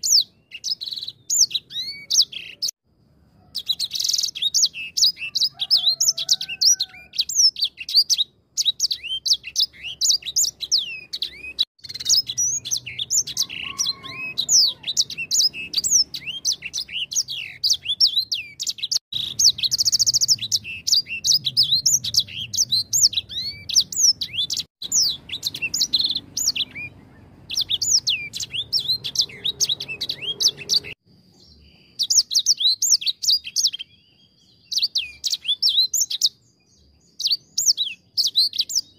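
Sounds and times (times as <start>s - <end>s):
finch singing: 0.0s - 2.8s, 3.4s - 38.9s.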